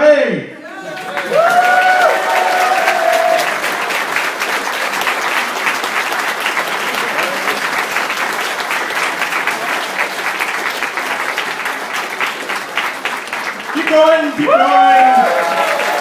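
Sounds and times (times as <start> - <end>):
audience applauding: 0.7 - 16.0.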